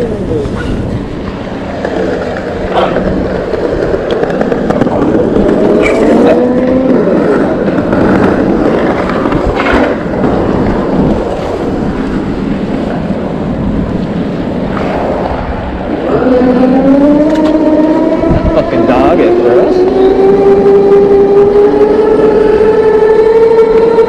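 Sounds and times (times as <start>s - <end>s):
wind and tyres on road: 0.0s - 24.0s.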